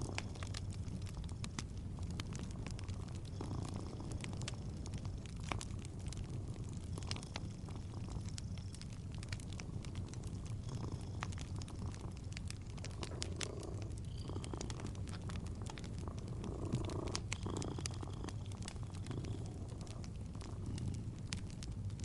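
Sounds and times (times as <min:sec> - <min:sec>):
cat purring: 0:00.0 - 0:22.0
wood fire crackling: 0:00.0 - 0:22.0.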